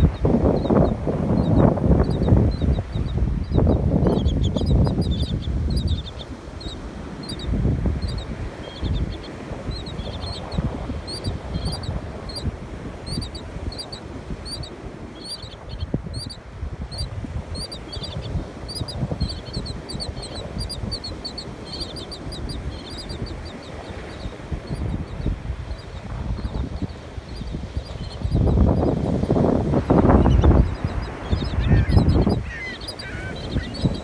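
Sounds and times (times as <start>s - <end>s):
wind rumble on microphone: 0.0s - 34.0s
bird chirping: 0.6s - 12.5s, 13.1s - 16.4s, 17.0s - 28.9s, 30.2s - 34.0s.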